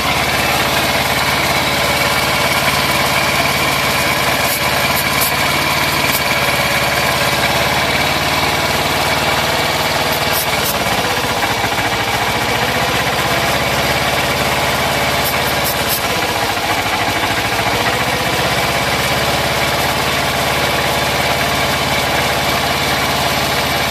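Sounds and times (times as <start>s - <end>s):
engine stumbling: 0.0s - 23.9s
motorcycle engine idling: 0.0s - 23.9s.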